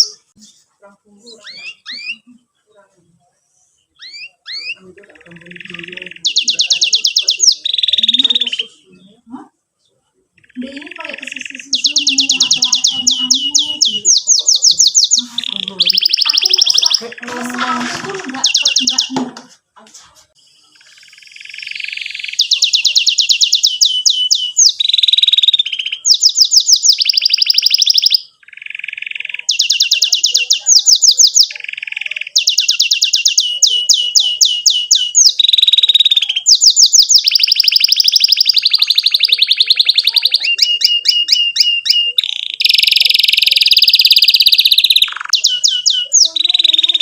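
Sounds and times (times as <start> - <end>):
canary singing trilled phrases: 0.0 - 47.0.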